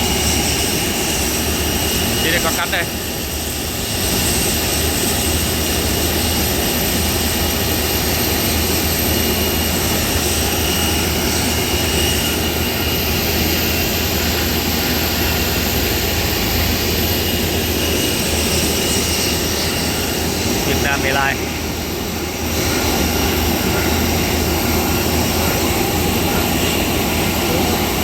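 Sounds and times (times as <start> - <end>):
jet engines droning: 0.0 - 28.0.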